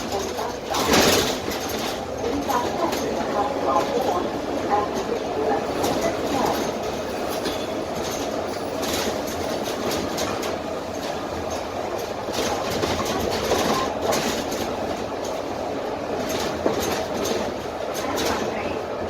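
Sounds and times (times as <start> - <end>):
bus diesel engine rumble: 0.0 - 19.0
clicks and rattles of bus body: 0.0 - 19.0.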